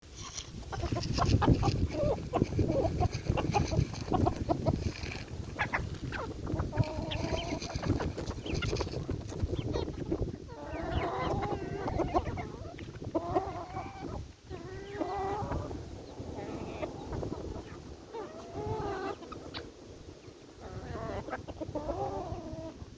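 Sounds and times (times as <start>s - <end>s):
chickens clucking: 0.1s - 22.8s.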